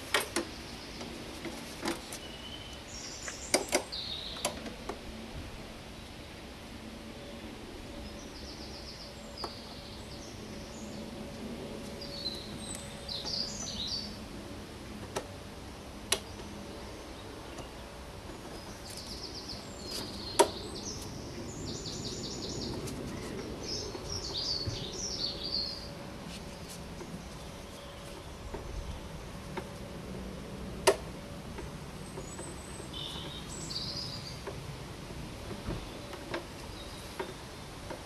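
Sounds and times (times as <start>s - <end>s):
birds chirping: 0.4s - 4.8s, 7.1s - 14.3s, 15.6s - 30.0s, 31.2s - 38.0s.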